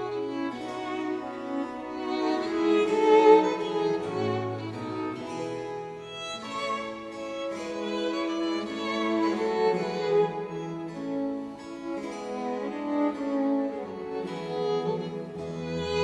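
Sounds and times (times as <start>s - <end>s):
cello playing held notes: 0.0s - 16.0s
violin playing held notes: 0.0s - 16.0s.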